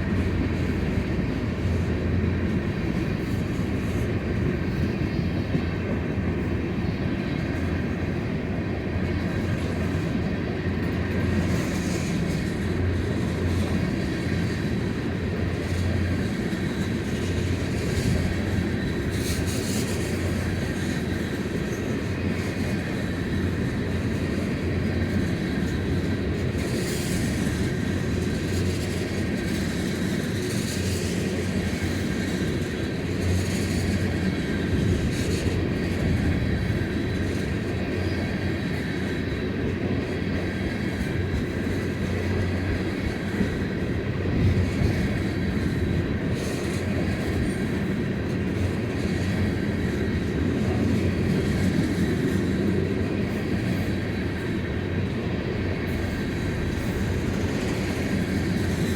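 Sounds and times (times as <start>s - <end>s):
train wheels rumbling: 0.0s - 58.9s.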